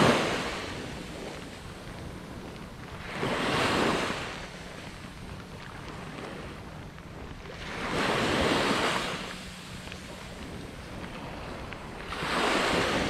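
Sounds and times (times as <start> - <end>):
waves washing up a beach: 0.0 - 13.0
wind hiss: 0.0 - 13.0.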